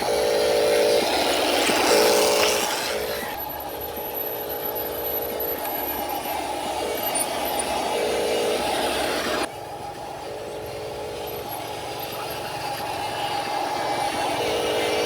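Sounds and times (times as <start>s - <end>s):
model truck motor whine: 0.0s - 15.0s.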